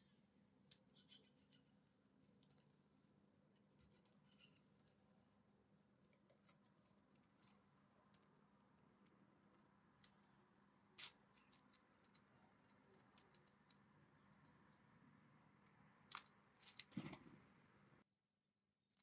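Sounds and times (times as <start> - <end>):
bird bill pecking seeds and wood: 0.6 - 5.1, 5.8 - 17.7.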